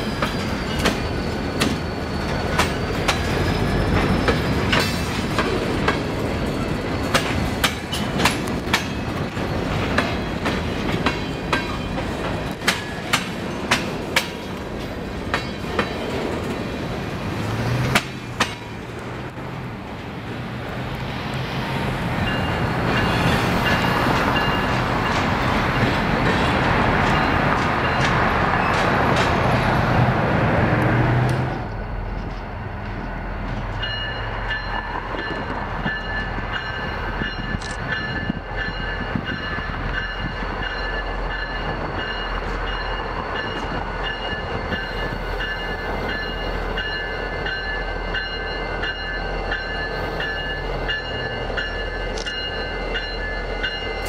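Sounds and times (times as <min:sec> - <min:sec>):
diesel locomotive hum: 0:00.0 - 0:54.0
freight train cars rolling on rails: 0:00.0 - 0:54.0.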